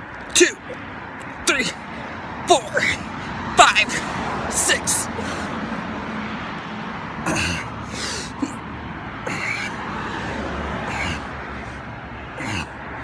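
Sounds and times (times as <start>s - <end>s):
man breathing hard: 0.7s - 6.1s, 7.3s - 13.0s.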